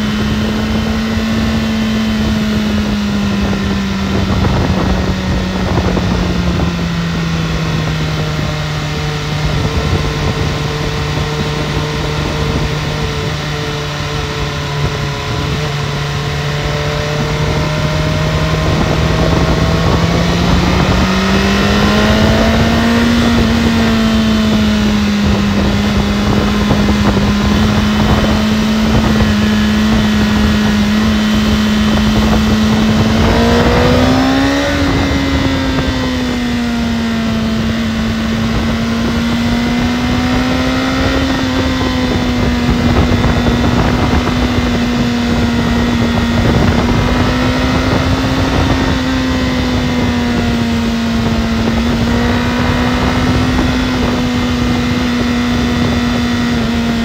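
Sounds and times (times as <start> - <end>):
motorcycle engine running: 0.0 - 57.0
wind noise: 0.0 - 57.0.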